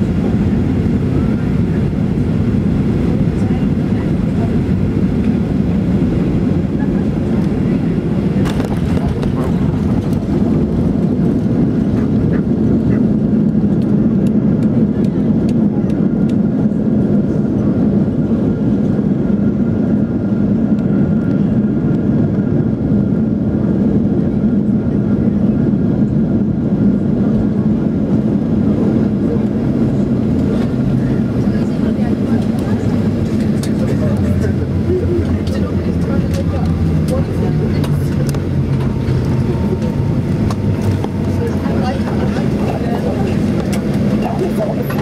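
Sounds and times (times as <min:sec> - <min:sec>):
jet engine and wheel rumble: 0:00.0 - 0:45.0.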